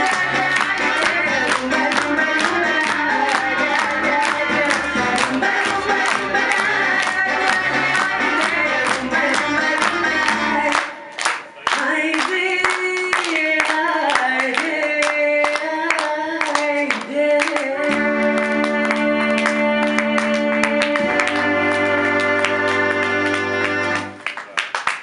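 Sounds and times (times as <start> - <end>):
dance music with singing: 0.0 - 23.6.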